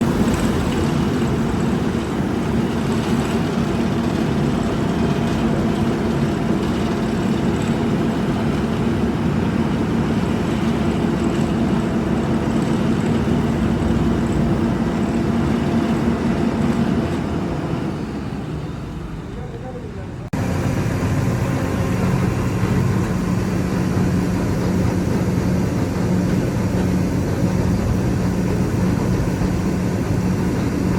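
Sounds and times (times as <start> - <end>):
heavy machinery engine droning: 0.0 - 30.9.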